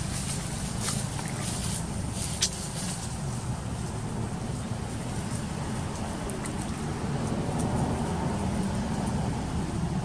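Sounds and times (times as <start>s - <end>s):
light water splashes: 0.0s - 9.3s
steady low rumble: 0.0s - 10.0s.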